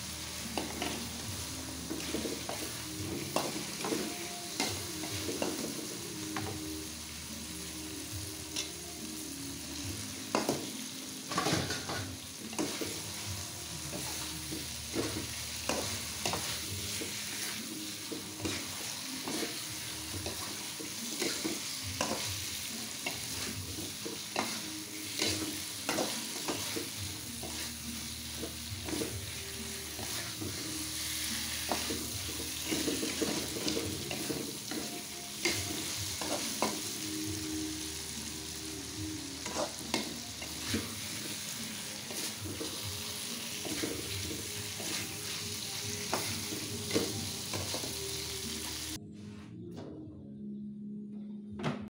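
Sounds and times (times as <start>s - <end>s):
food sizzling in a wok: 0.0s - 49.0s.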